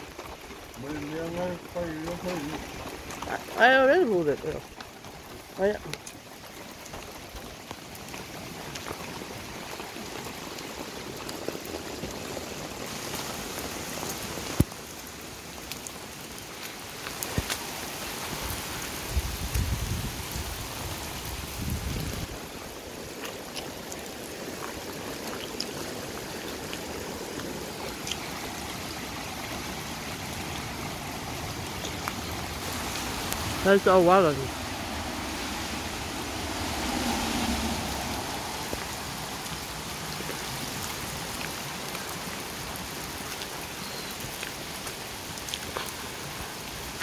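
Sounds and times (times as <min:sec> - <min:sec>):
creek rushing: 0:00.0 - 0:47.0
heavy rain on leaves: 0:00.0 - 0:47.0.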